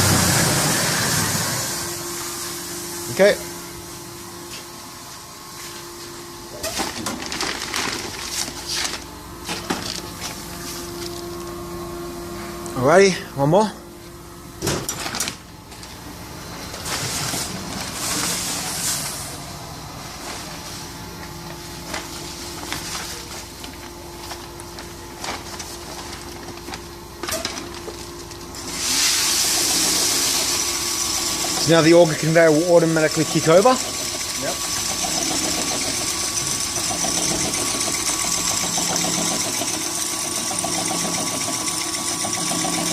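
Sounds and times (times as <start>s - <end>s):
machinery humming: 0.0s - 14.6s, 15.4s - 42.9s.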